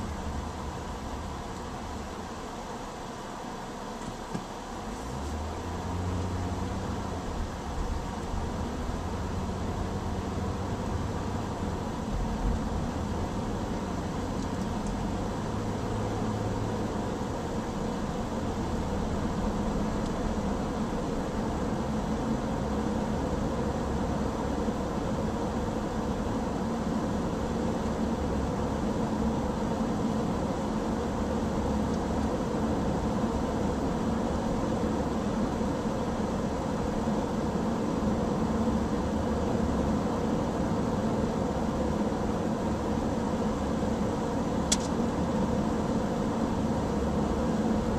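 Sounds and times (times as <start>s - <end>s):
engine hum: 0.0s - 47.9s
faint steady drone: 0.0s - 47.9s.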